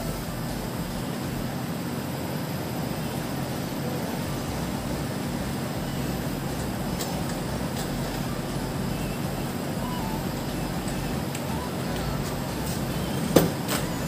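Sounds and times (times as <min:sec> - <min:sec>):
mechanical hum and hiss: 0:00.0 - 0:14.0.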